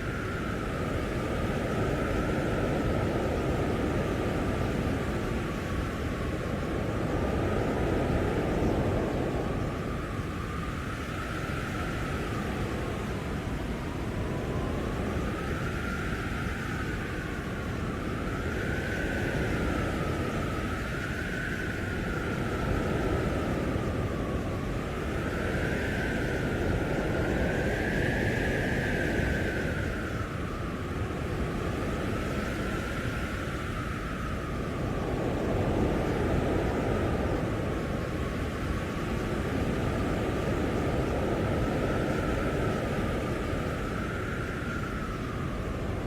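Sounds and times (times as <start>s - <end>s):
storm wind blowing: 0.0s - 46.0s.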